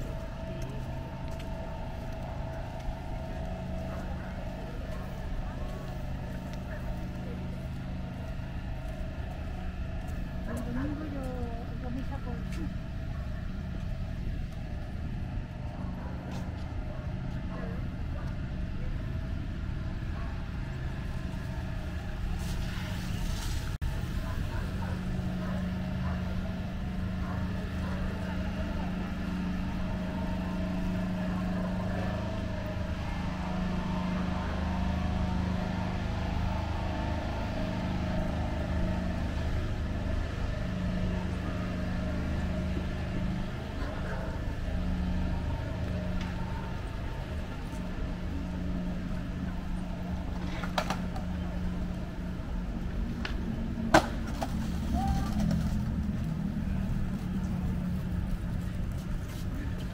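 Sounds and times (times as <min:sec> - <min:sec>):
city traffic rumble: 0:00.0 - 0:59.9
vehicle engine humming: 0:00.0 - 0:59.9.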